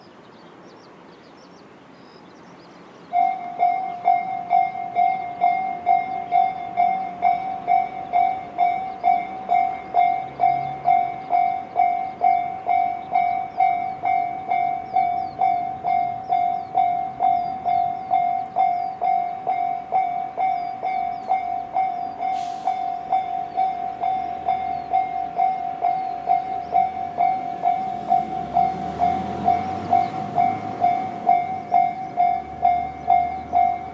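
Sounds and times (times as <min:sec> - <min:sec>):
train rumble: 0:02.6 - 0:33.9
level crossing warning bells: 0:03.1 - 0:33.9.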